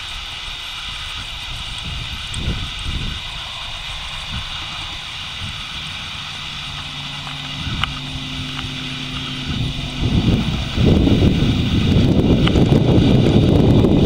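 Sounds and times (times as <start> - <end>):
wind buffeting microphone: 0.0 - 14.0
distant vehicle engine hum: 0.2 - 14.0.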